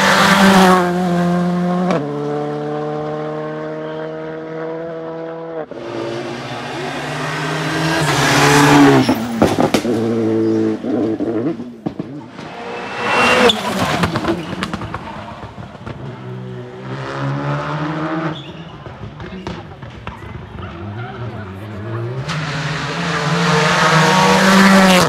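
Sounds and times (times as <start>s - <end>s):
rally car engine at high revs: 0.0s - 25.0s.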